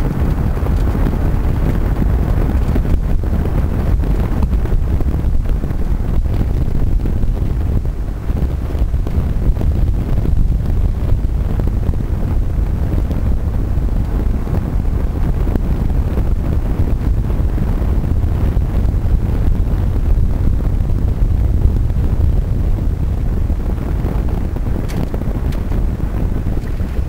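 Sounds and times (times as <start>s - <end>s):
small tyres rumbling on tarmac: 0.0s - 27.0s
wind buffeting microphone: 0.0s - 27.0s.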